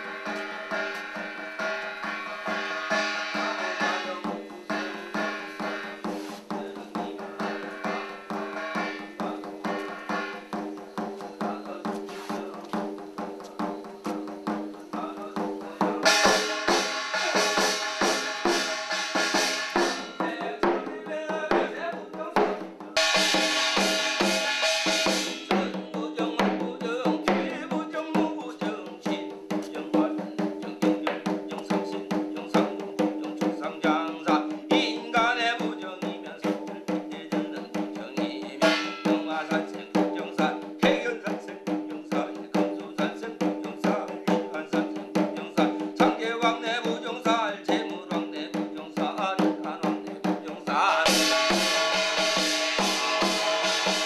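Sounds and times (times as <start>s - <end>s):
hourglass drum strokes: 0.0s - 54.0s.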